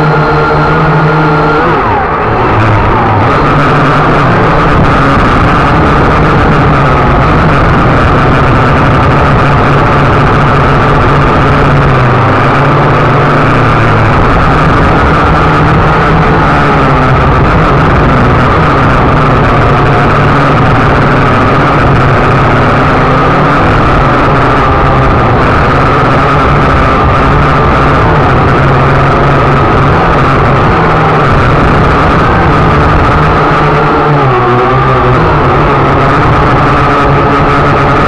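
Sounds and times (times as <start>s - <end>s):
drone propellers buzzing: 0.0s - 38.0s.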